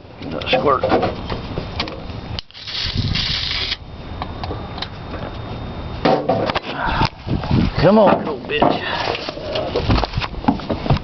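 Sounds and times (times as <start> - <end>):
low mechanical noise: 0.0 - 11.0.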